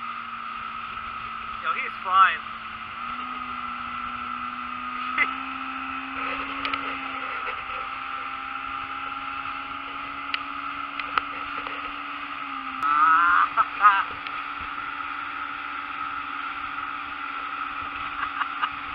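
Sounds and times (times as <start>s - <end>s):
outboard motor running: 0.0s - 18.9s.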